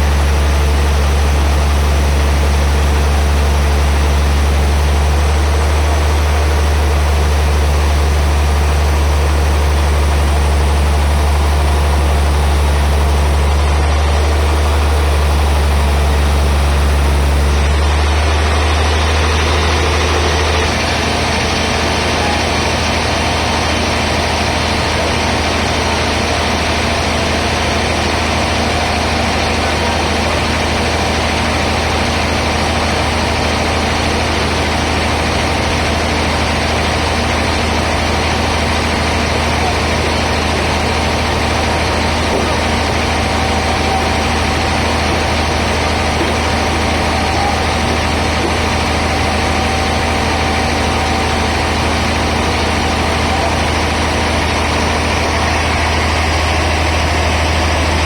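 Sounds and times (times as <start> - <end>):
band saw deep hum: 0.0 - 58.0.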